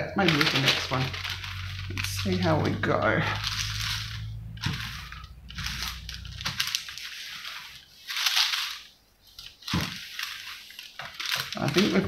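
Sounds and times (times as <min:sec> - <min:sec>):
iron sliding over crinkling paper: 0:00.2 - 0:12.0.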